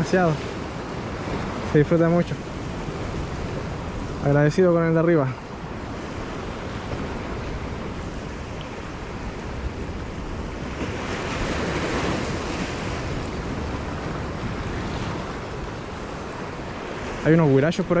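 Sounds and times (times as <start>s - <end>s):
surf washing against rocks: 0.0s - 18.0s
wind on microphone: 0.0s - 18.0s.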